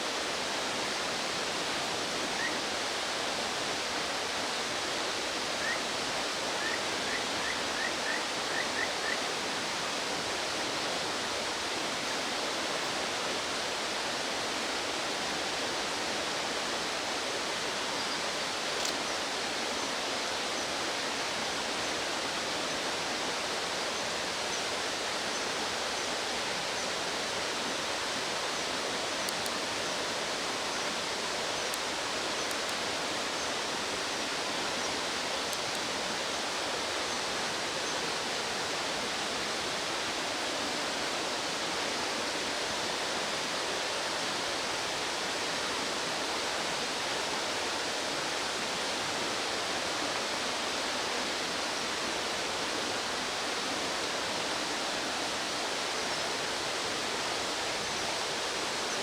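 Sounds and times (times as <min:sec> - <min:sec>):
fast-flowing stream rushing: 0:00.0 - 0:59.0.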